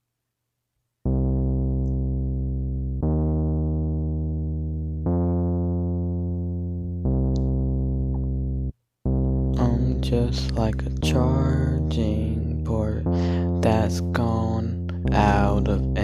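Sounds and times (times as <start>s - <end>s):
synthesizer chords: 1.0s - 16.0s.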